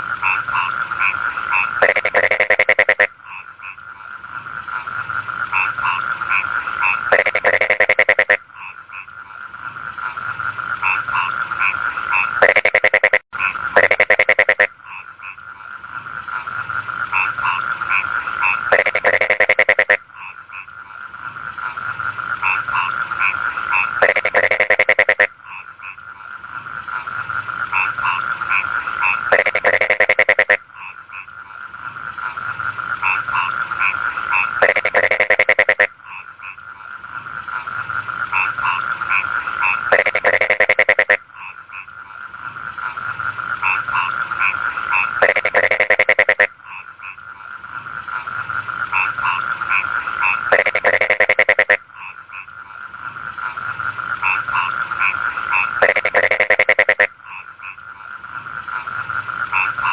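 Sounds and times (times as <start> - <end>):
frogs croaking chorus: 0.0 - 59.9
loud rapid pulsed frog croak: 0.0 - 59.9.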